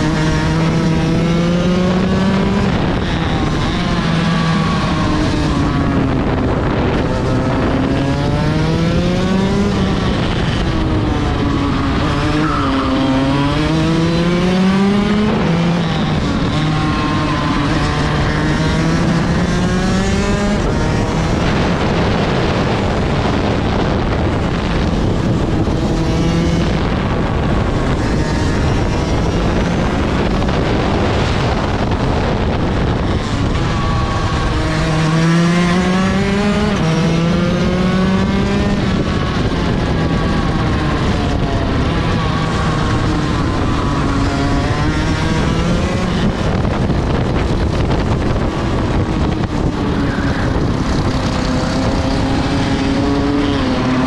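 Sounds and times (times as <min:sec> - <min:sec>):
kart engine revving: 0:00.0 - 0:54.0
steady rushing noise: 0:00.0 - 0:54.0.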